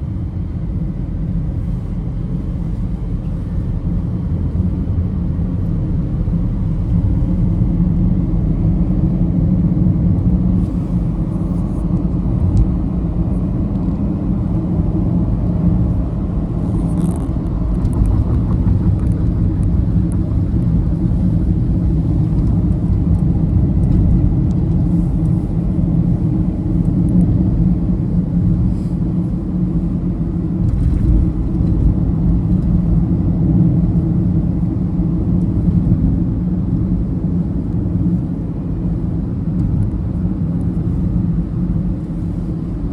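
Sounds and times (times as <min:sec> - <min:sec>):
road vehicle rumble: 0:00.0 - 0:42.9.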